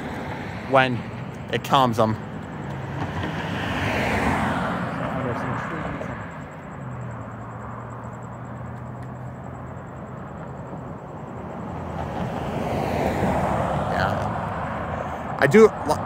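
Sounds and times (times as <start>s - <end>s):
car approaching: 0.0s - 16.0s
car passing: 0.0s - 16.0s.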